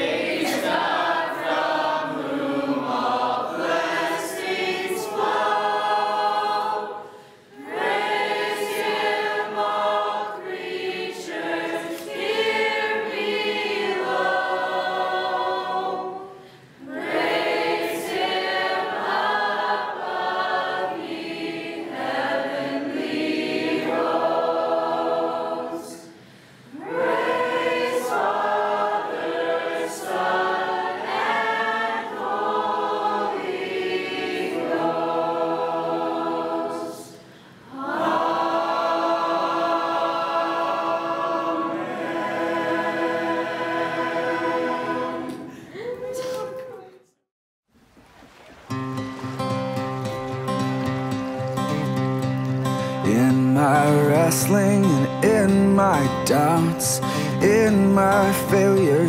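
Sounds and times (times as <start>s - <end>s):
group singing unaccompanied: 0.0s - 45.7s, 53.0s - 59.0s.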